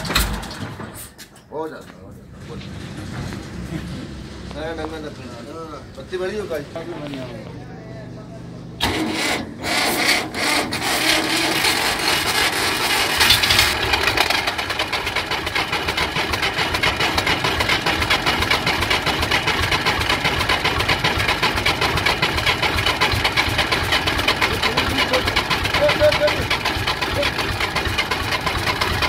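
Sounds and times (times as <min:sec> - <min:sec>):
diesel engine starting and idling: 0:00.0 - 0:01.4, 0:02.0 - 0:29.0.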